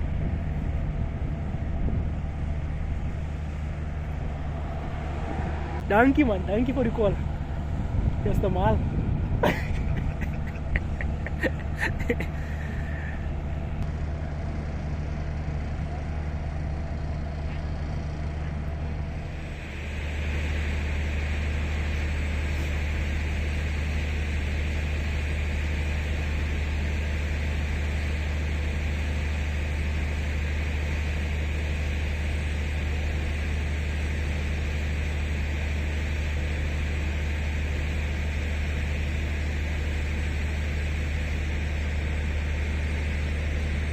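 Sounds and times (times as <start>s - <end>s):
locomotive blowers droning: 0.0s - 43.9s.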